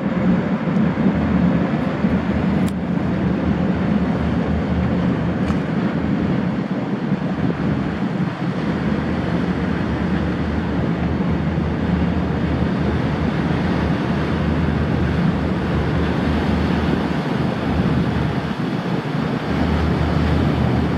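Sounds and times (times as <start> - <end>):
hydrofoil turbines running: 0.0 - 20.9
waterjet wake spray: 0.0 - 20.9
wind noise on microphone: 0.0 - 20.9.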